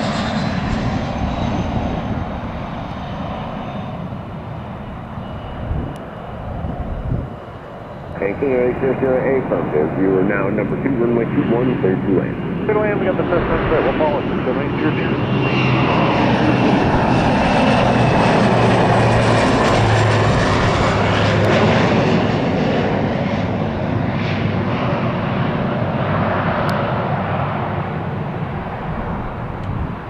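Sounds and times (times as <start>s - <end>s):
propeller aircraft flying past: 0.0s - 30.0s.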